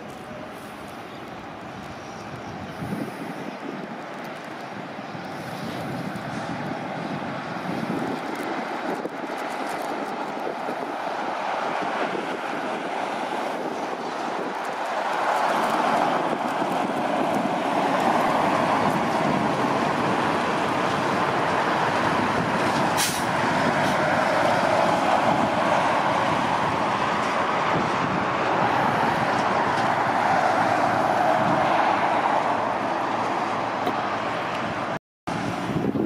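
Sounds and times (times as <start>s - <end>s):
heavy truck running: 0.0s - 36.0s.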